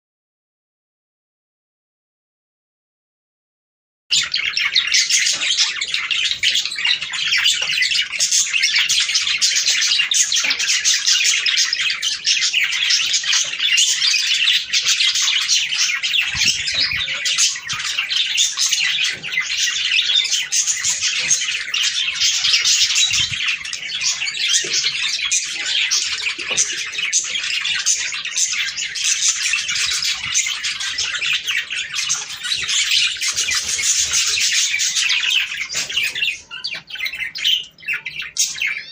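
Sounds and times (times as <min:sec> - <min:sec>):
budgerigars chattering: 0:04.1 - 0:38.9.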